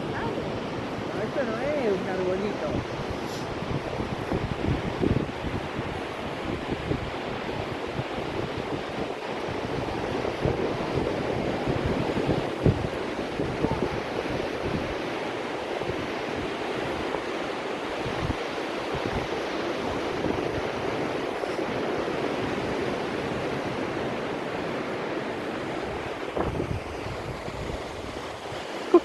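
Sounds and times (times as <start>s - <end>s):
ocean surf washing: 0.0s - 29.0s
wind buffeting microphone: 0.0s - 29.0s.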